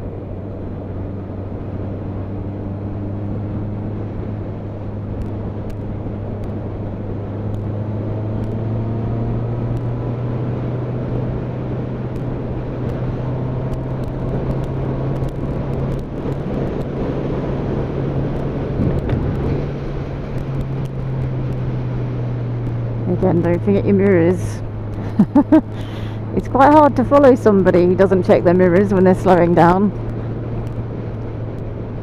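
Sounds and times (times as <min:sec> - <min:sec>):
motorcycle engine droning: 0:00.0 - 0:32.0
wind and road noise: 0:00.0 - 0:32.0.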